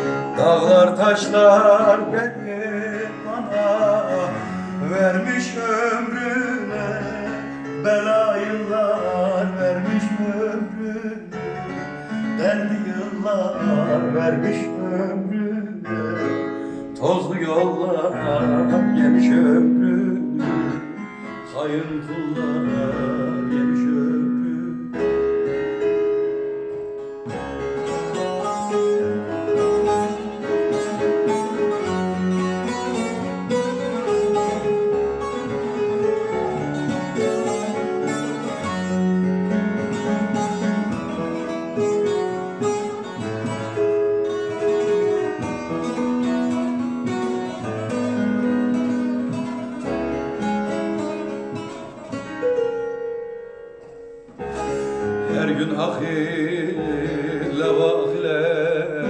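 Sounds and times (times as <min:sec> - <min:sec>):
plucked long-necked lute melody: 0:00.0 - 0:16.6, 0:17.3 - 0:59.0.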